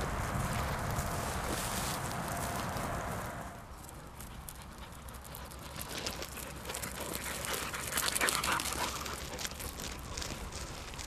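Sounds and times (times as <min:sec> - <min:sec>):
rustling in dry stubble: 0:00.0 - 0:11.0.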